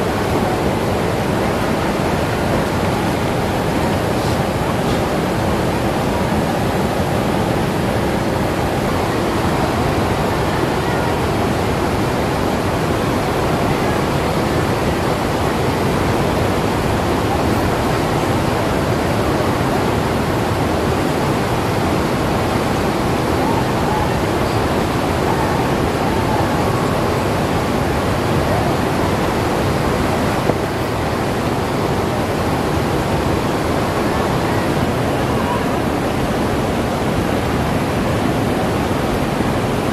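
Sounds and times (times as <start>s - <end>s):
river rushing over rapids: 0.0s - 39.9s.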